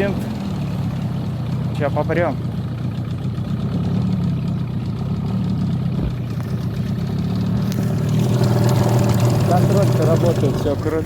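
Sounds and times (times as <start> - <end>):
small boat motor running: 0.0 - 11.0.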